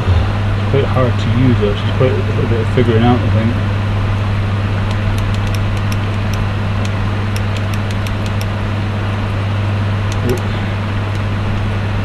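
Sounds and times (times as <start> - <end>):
electrical hum with fan rushing: 0.0 - 12.0.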